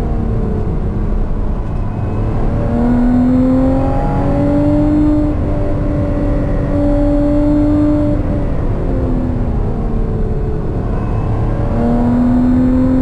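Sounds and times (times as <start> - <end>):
car engine at speed: 0.0 - 13.0
road and tyre rumble: 0.0 - 13.0.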